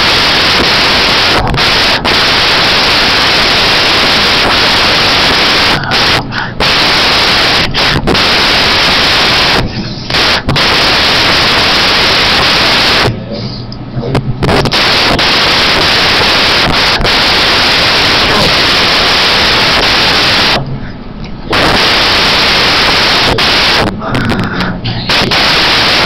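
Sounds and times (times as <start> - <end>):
loud static hiss: 0.0 - 26.0.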